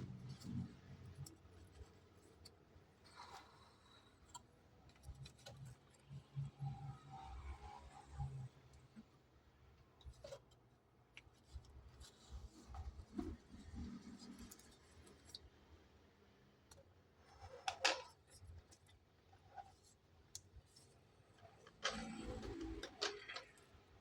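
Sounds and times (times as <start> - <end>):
light clicks and scrapes: 0.0 - 24.0.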